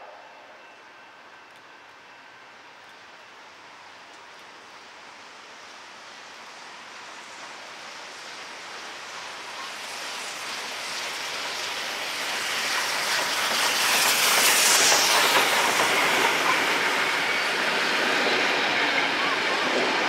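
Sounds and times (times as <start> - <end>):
steam locomotive passing: 0.0 - 20.0
carriages rolling on rails: 2.2 - 20.0
steam hissing: 3.8 - 20.0.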